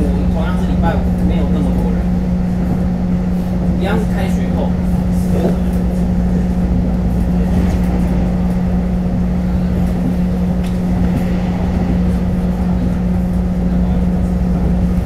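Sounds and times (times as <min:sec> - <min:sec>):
train low hum: 0:00.0 - 0:15.0
train wheels rumbling on track: 0:00.0 - 0:15.0.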